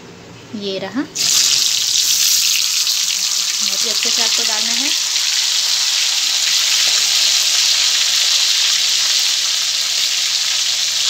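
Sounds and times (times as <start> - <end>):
chicken sizzling in hot oil: 1.2 - 11.0.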